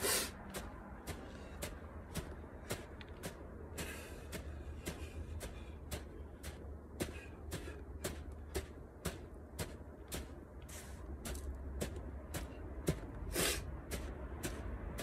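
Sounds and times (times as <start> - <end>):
sand scraping rush: 0.0 - 15.0.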